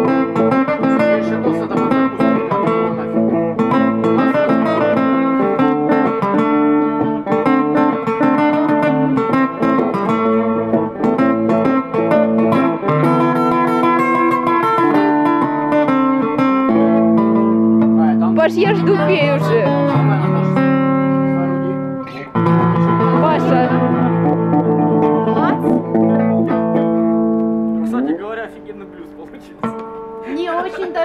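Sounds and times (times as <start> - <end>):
acoustic guitar playing blues: 0.0 - 31.0.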